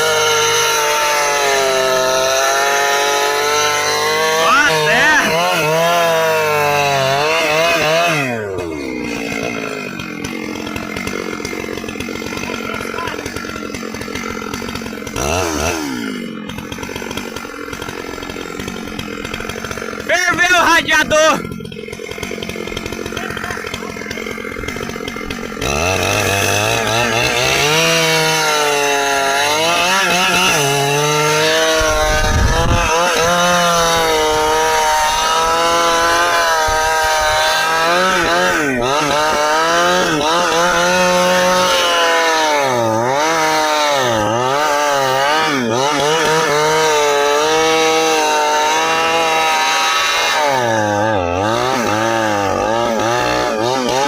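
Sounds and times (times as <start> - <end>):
chainsaw cutting hardwood: 0.0 - 54.0.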